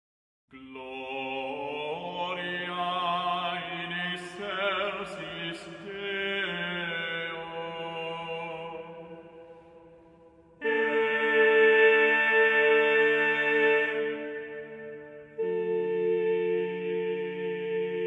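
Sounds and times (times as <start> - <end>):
voices singing slow chant: 0.6 - 18.0.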